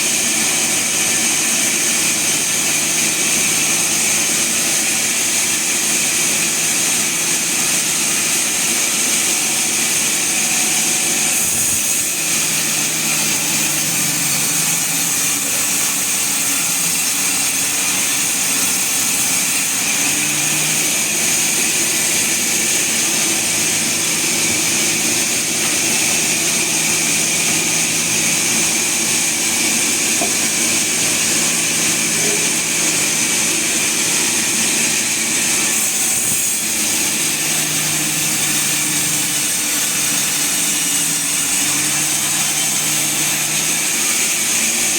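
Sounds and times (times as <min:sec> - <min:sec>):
sawmill machinery drone: 0:00.0 - 0:44.9.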